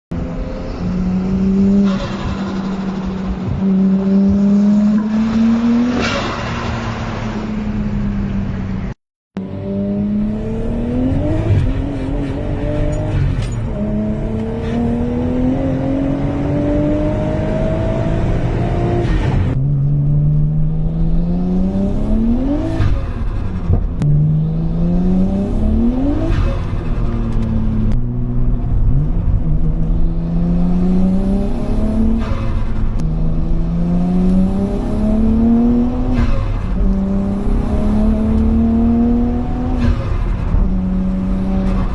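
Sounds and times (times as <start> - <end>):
car engine accelerating through gears: 0.2 - 8.0, 9.4 - 41.9.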